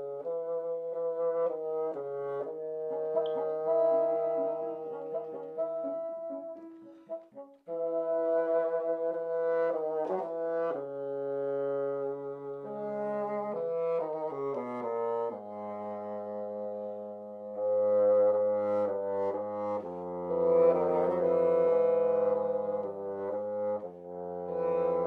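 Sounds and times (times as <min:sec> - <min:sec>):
bassoon duet: 0:00.0 - 0:25.0.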